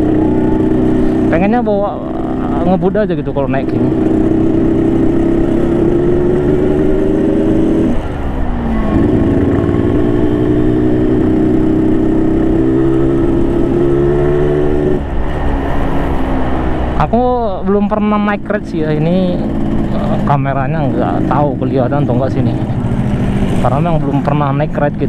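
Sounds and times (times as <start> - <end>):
motorcycle engine running: 0.0 - 15.2, 17.6 - 25.0.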